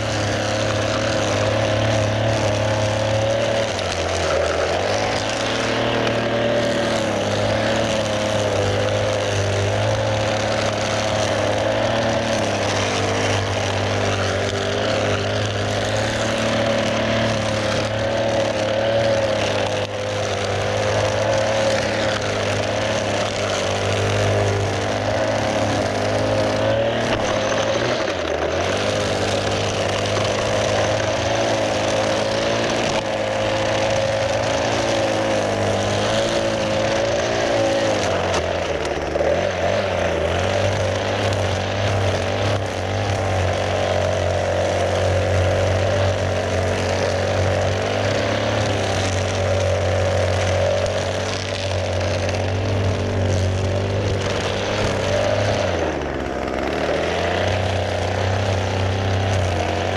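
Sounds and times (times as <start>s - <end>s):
string trimmer engine running: 0.0s - 59.9s.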